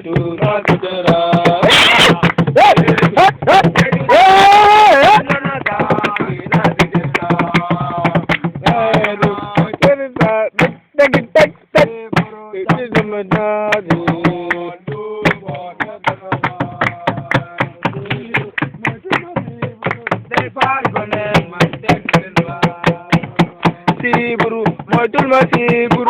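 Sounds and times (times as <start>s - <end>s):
steady percussive beat: 0.0s - 26.0s
voices singing a chant: 0.0s - 26.0s.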